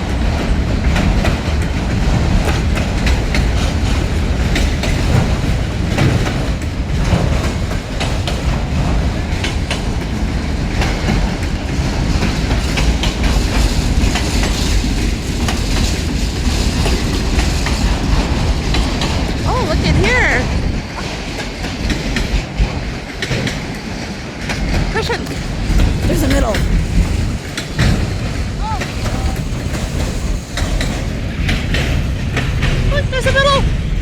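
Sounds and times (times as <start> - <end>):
freight train rumbling past: 0.0 - 34.0
wheels clicking over rail joints: 0.0 - 34.0.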